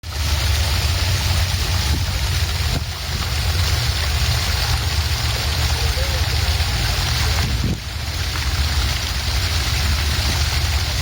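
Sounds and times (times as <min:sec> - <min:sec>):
water fountain splashing: 0:00.0 - 0:11.0.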